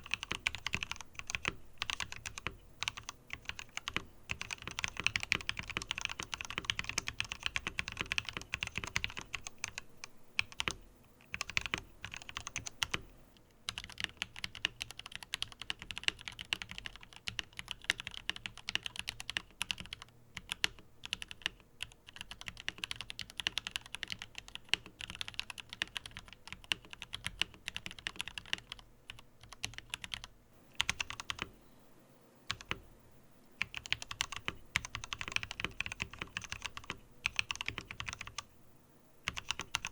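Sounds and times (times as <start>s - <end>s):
fast typing on mechanical keyboard: 0.0s - 13.0s, 13.7s - 31.5s, 32.5s - 32.8s, 33.6s - 38.4s, 39.2s - 39.9s.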